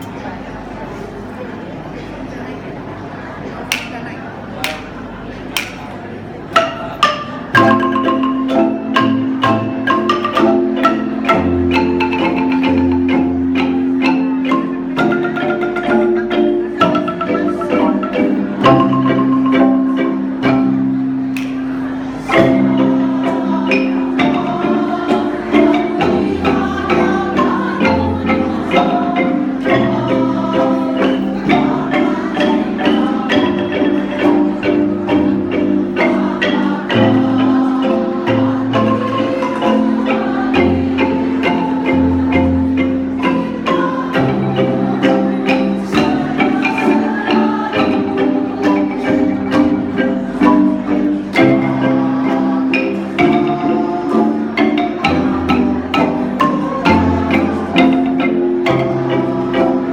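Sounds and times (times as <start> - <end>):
wooden xylophone ensemble playing: 0.0 - 59.9.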